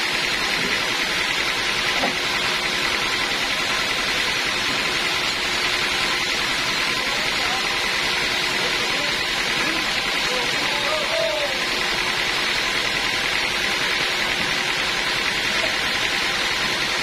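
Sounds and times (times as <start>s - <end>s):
band saw whirring: 0.0s - 17.0s.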